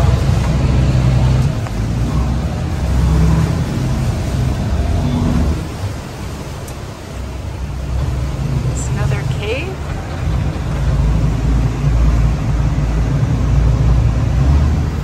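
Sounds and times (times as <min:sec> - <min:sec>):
motorboat engine rumbling: 0:00.0 - 0:15.0.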